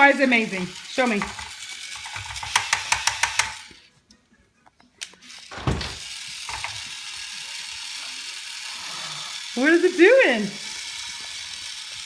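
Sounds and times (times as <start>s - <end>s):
toy ratcheting clicks: 0.0s - 3.8s, 5.0s - 12.0s.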